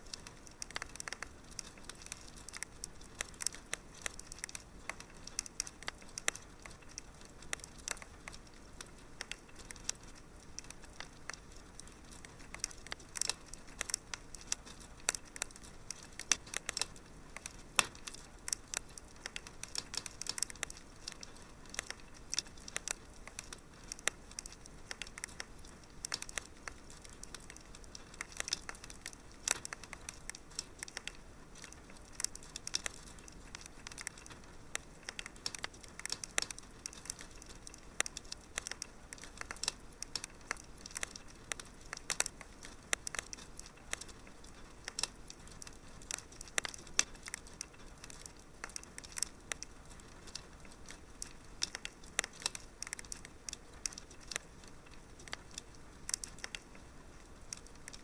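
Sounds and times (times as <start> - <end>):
soft hiss of fire: 0.0 - 58.0
wood fire crackling: 0.0 - 58.0.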